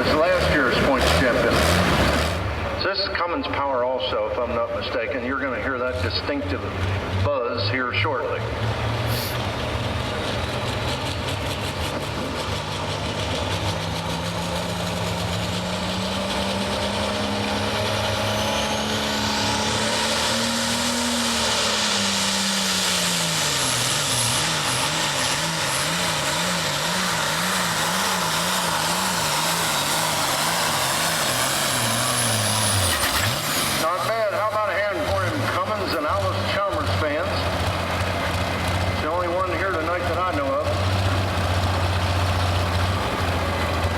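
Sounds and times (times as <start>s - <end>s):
tractor diesel engine revving: 0.0s - 43.9s.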